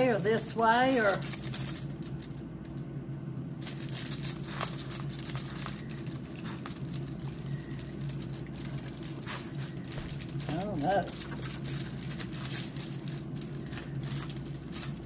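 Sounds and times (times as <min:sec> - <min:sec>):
foil crinkling: 0:00.0 - 0:02.5, 0:03.6 - 0:15.0
air fryer hum: 0:00.0 - 0:15.0.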